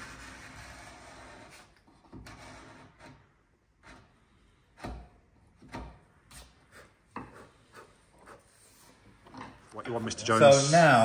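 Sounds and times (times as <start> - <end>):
chisel scraping wood: 0.0 - 8.9.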